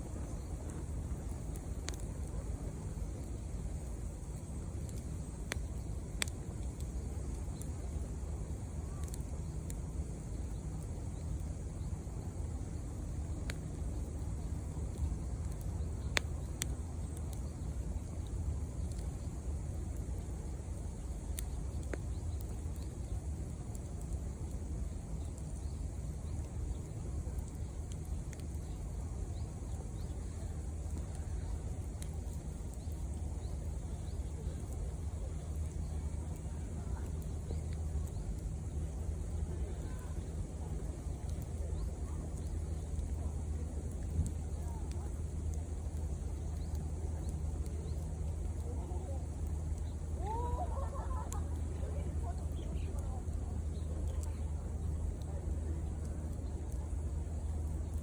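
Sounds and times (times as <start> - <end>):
campfire crackling pops: 0.0 - 58.0
fire low rumble: 0.0 - 58.0.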